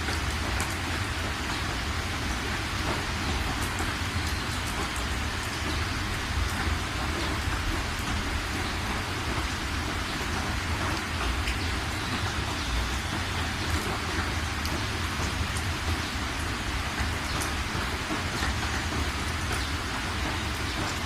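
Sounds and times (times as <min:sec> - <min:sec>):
raindrops ticking: 0:00.0 - 0:21.0
steady rain hiss: 0:00.0 - 0:21.0.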